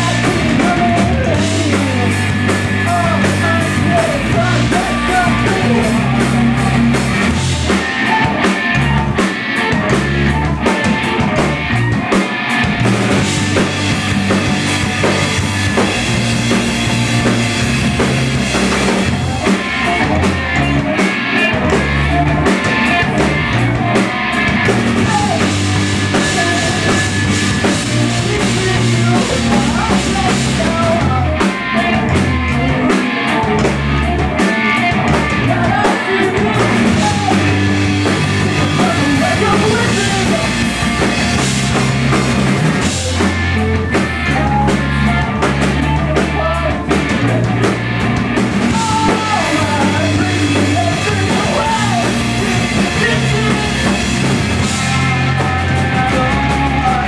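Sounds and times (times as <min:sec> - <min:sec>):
person singing: 0:00.0 - 0:12.4, 0:17.9 - 0:41.8, 0:42.8 - 0:47.7, 0:48.7 - 0:57.0
bass guitar: 0:00.0 - 0:57.0
drum kit: 0:00.0 - 0:57.0
electric guitar: 0:00.0 - 0:57.0.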